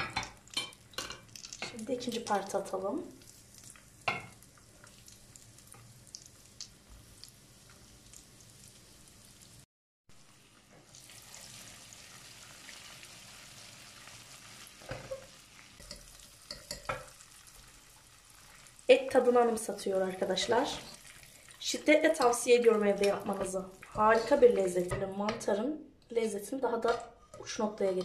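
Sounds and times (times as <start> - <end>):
food sizzling in hot oil: 0.0 - 24.9.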